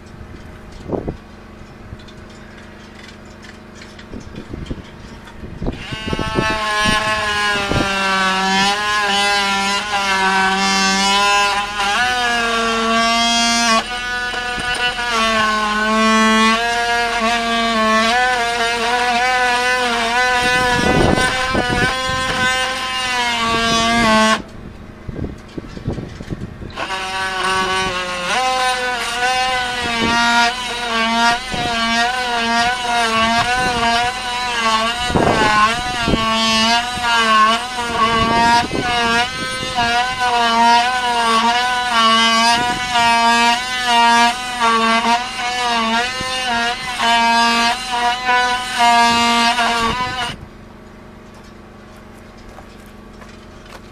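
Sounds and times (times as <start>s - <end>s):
power tool whining on wood: 0.0s - 50.5s.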